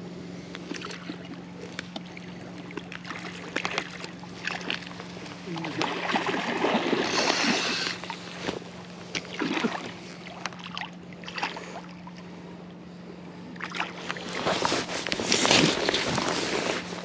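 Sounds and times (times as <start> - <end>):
steady low hum: 0.0 - 17.0
water splashing and sloshing: 0.6 - 12.7, 13.4 - 17.0.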